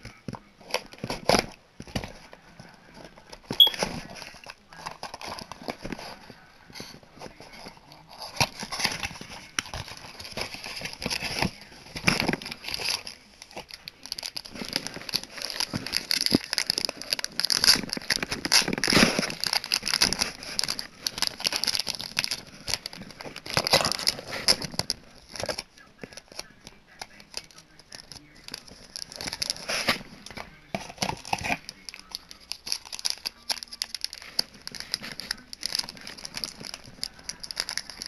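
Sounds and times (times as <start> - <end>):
plastic bag crinkling: 7.2 - 38.0.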